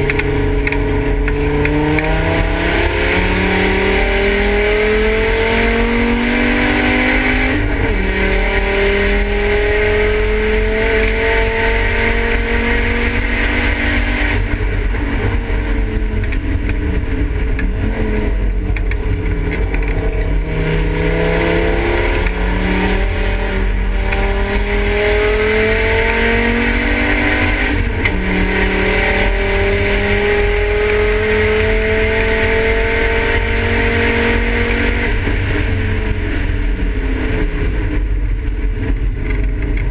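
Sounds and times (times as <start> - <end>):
race car engine revving: 0.0 - 39.9
road noise rumble: 0.0 - 39.9.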